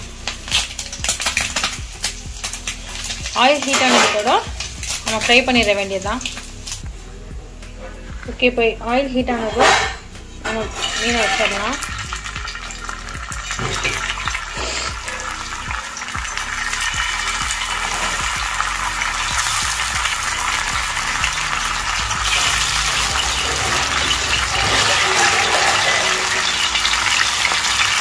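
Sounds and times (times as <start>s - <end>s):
fish sizzling in hot oil: 0.0s - 6.9s, 9.6s - 28.0s.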